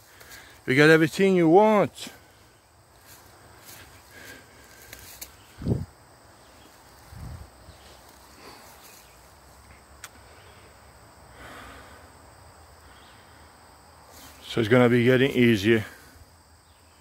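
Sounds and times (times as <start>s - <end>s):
faint woodland background: 0.0s - 17.0s.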